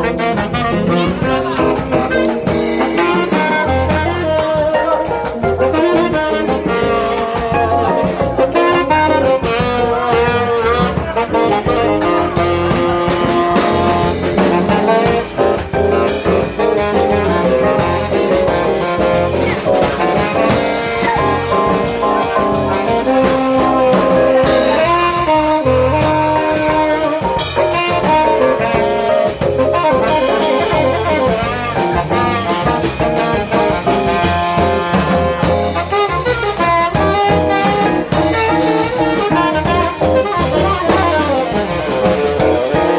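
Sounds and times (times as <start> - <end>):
horn melody: 0.0 - 42.9
jazz band playing: 0.0 - 42.9.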